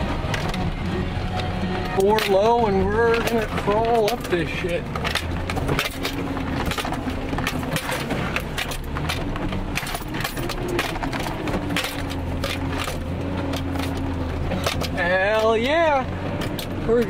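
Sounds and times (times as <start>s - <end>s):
truck engine at low revs: 0.0s - 17.0s
clicks and knocks over rocks: 0.2s - 17.0s.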